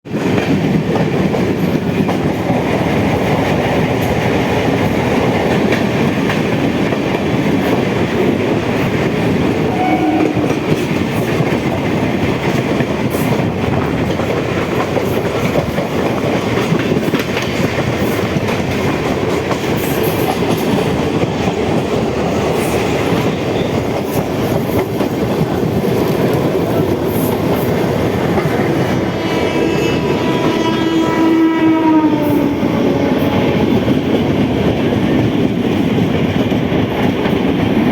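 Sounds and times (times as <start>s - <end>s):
clickety-clack of train wheels: 0.0s - 37.9s
train rumbling: 0.1s - 37.9s.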